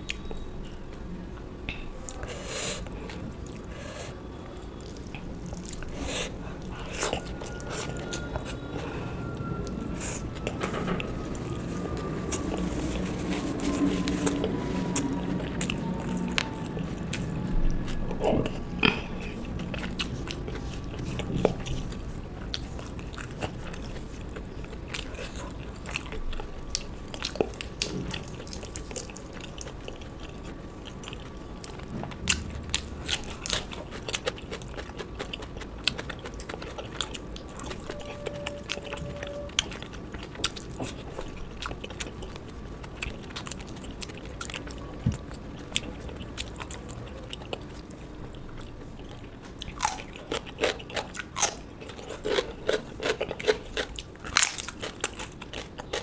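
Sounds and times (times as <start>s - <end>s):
person chewing and biting: 4.7s - 8.8s, 11.3s - 56.0s.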